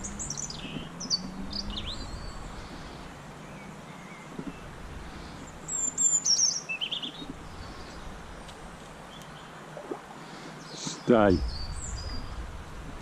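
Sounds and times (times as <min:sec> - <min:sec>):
songbird chirps and trills: 0:00.0 - 0:13.0.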